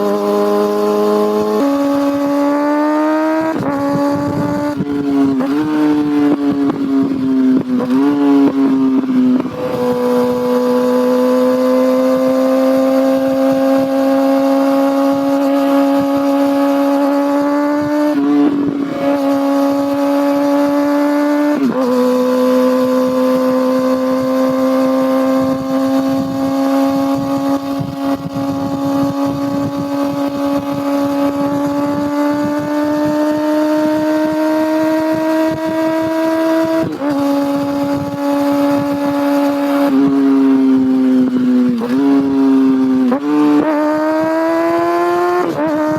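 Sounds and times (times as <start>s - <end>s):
motorcycle engine at high revs: 0.0s - 45.9s.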